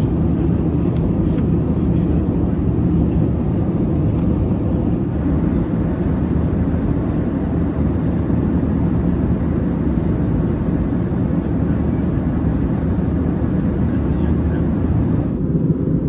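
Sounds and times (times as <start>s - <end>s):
jet engines droning: 0.0s - 15.8s.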